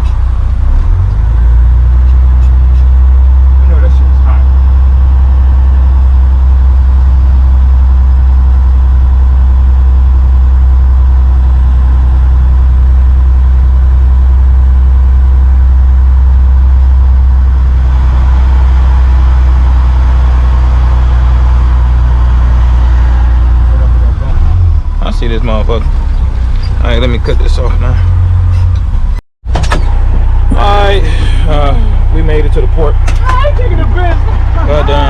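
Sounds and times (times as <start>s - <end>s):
diesel truck engine droning: 0.0s - 35.0s
road noise: 0.0s - 35.0s.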